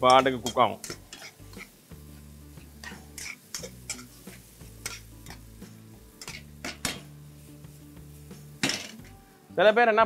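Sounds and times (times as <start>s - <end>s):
spatula scraping a pan: 0.0s - 9.2s
sauce sizzling softly: 0.0s - 10.0s.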